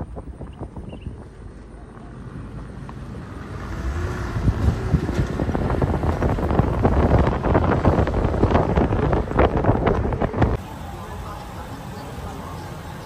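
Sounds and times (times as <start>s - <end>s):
wind buffeting microphone: 0.0s - 2.2s, 3.1s - 13.0s
vehicle rumbling on dirt road: 0.0s - 13.0s.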